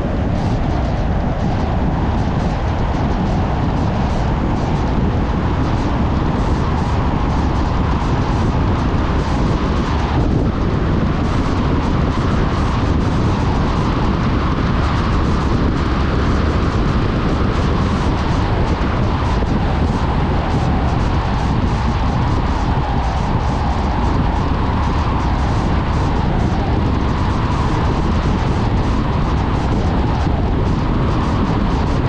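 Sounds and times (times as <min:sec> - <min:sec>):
road noise: 0:00.0 - 0:32.0.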